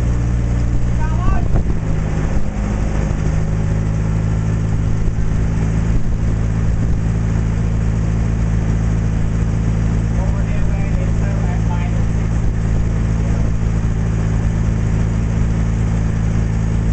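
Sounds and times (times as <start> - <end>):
boat engine droning: 0.0 - 16.9.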